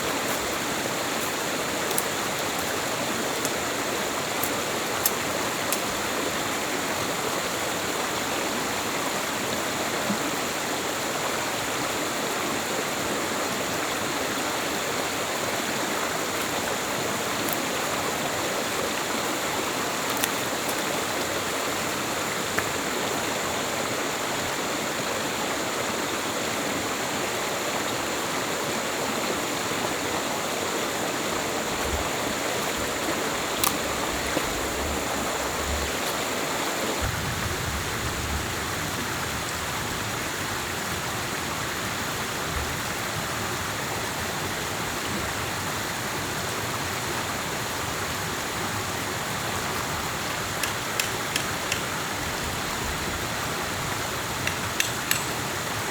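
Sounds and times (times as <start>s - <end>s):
fast-flowing stream rushing: 0.0s - 37.5s, 38.5s - 55.9s.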